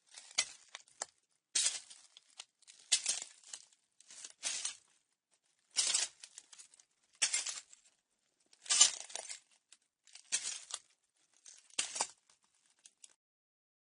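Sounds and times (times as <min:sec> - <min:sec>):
footsteps crunching on broken glass: 0:00.1 - 0:05.0, 0:05.7 - 0:07.8, 0:08.5 - 0:13.1.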